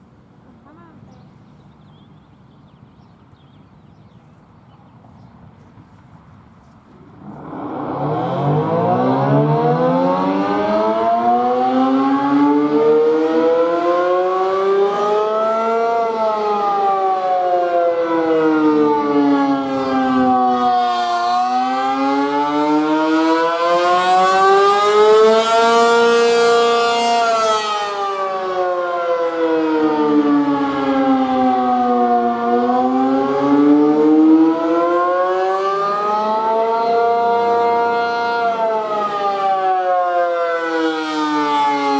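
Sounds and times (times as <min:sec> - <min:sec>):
warning siren wailing: 0:07.2 - 0:41.9.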